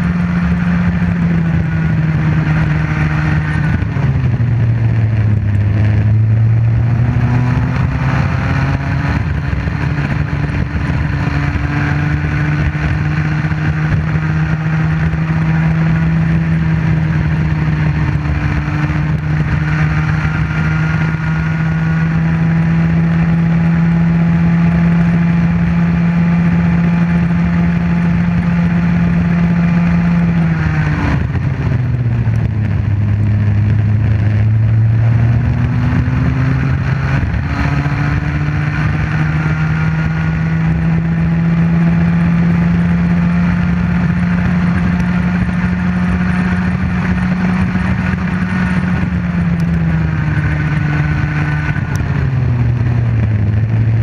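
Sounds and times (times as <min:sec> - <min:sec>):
kart engine at high revs: 0:00.0 - 0:54.0.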